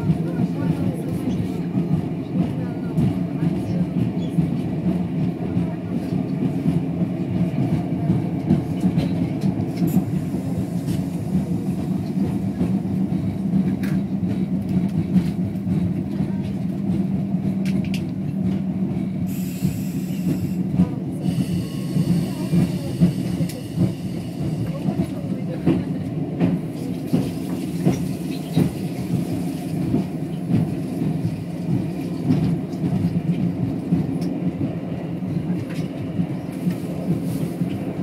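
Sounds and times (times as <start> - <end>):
wheels rumbling on rail: 0.0 - 38.0.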